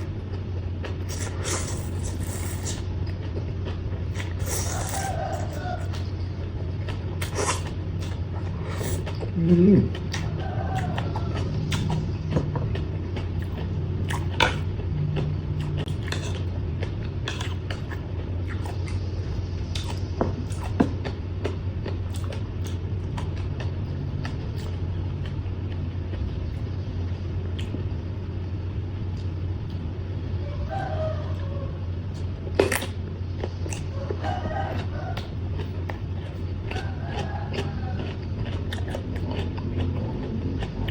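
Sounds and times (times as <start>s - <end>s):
crunchy chewing: 0.0s - 28.3s, 30.7s - 40.9s
steady low hum: 0.0s - 40.9s.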